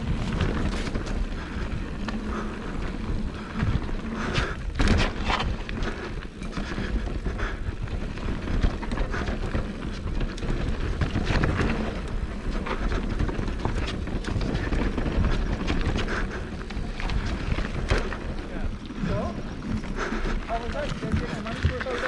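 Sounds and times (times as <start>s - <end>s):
bike clicks and knocks: 0.0s - 22.0s
bike tyres rumbling on dirt: 0.0s - 22.0s.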